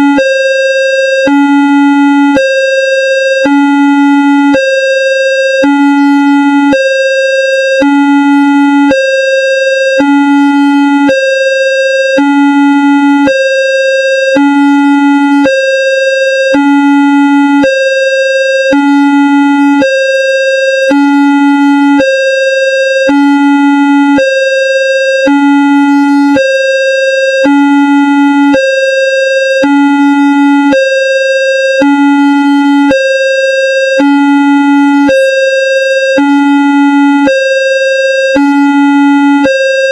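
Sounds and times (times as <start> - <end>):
level crossing two-tone warning signal: 0.0 - 39.9.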